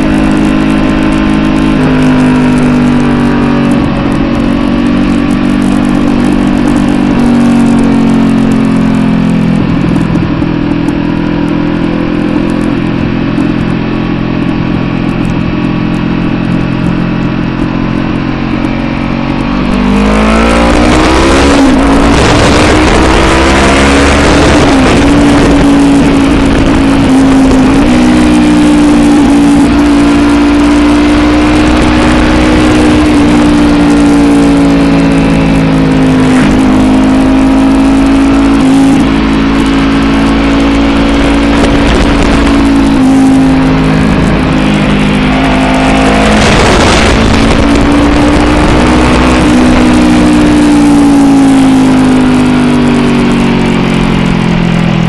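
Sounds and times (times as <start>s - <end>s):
motorcycle engine accelerating: 0.0s - 55.0s
wind rushing over microphone: 0.0s - 55.0s.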